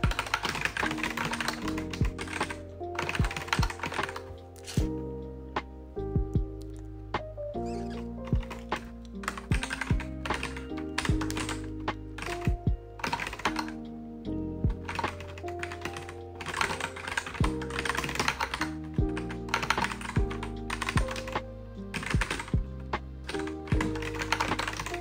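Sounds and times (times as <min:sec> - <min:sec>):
keyboard typing: 0:00.0 - 0:04.9, 0:07.6 - 0:13.8, 0:14.7 - 0:25.0
lofi background music: 0:00.0 - 0:25.0.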